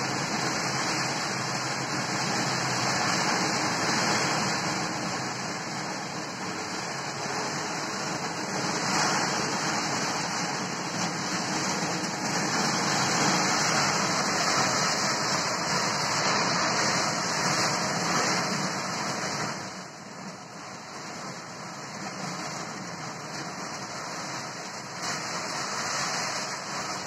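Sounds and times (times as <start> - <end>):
heavy rain pouring: 0.0 - 27.0
vehicles driving through water: 0.0 - 27.0.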